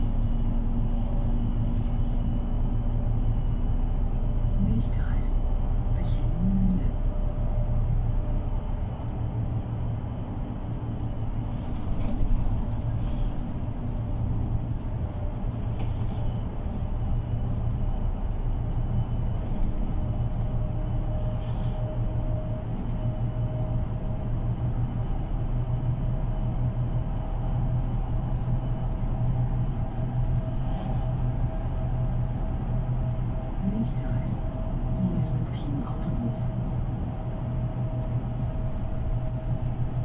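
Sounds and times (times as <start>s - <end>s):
bus engine and road drone: 0.0s - 40.0s
faint steady whine: 0.0s - 40.0s
interior rattles and clicks: 0.0s - 40.0s.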